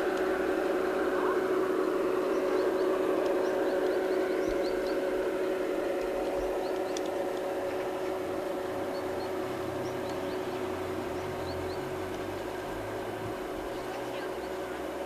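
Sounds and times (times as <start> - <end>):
model locomotive whine: 0.0 - 15.0
track rumble: 0.0 - 15.0.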